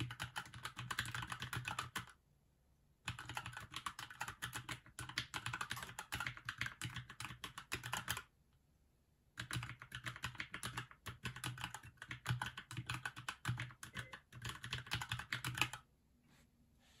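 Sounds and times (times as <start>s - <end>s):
mechanical keyboard typing: 0.0s - 2.1s, 3.1s - 8.3s, 9.4s - 15.8s.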